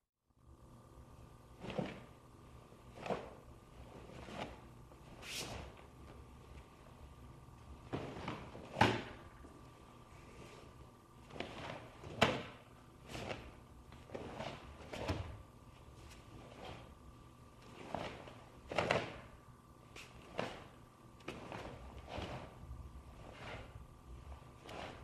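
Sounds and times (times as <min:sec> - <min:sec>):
faint steady hum: 0:00.3 - 0:25.0.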